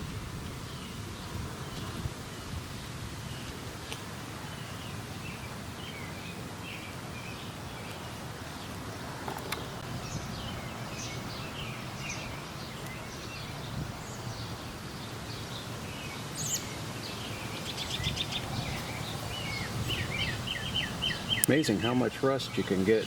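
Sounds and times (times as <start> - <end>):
wild birds chirping: 0.0 - 23.0.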